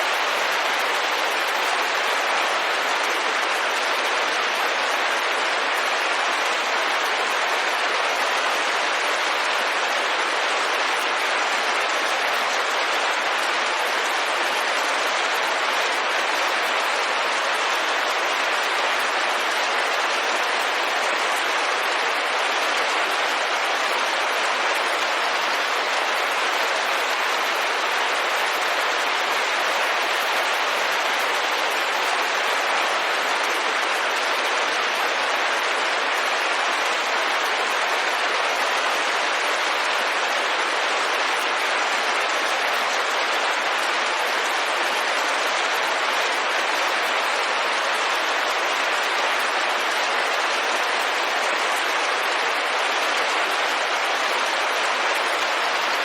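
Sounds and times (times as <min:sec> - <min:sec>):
rain pattering on a window: 0:00.0 - 0:56.0.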